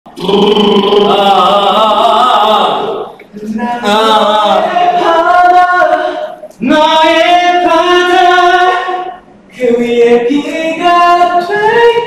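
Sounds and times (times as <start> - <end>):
young man singing a ballad: 0.1 - 12.0.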